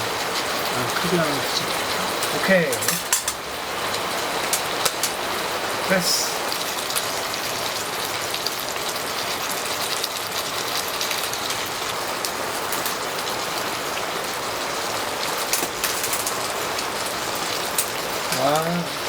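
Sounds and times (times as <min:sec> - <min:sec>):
heavy rain on tent fabric: 0:00.0 - 0:19.0.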